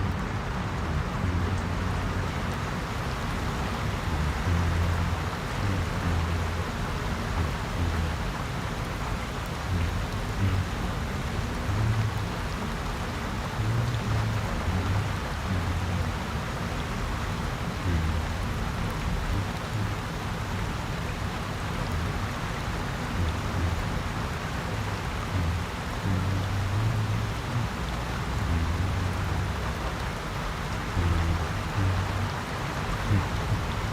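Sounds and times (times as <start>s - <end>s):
low hum: 0.0s - 33.9s
steady rain hissing: 0.0s - 33.9s.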